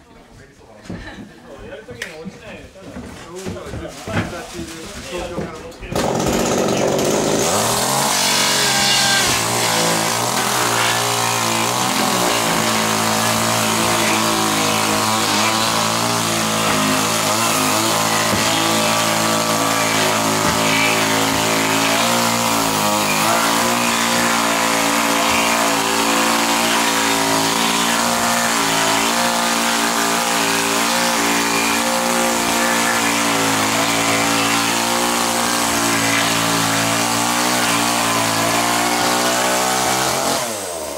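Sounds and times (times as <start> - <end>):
chainsaw cutting wood: 5.9 - 40.9.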